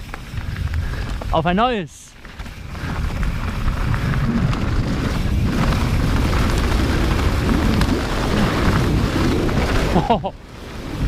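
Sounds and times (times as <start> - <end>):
bike rattling clicks and knocks: 0.0 - 10.3
tyres rolling over dirt and stones: 0.0 - 11.0
wind rushing over microphone: 0.0 - 11.0.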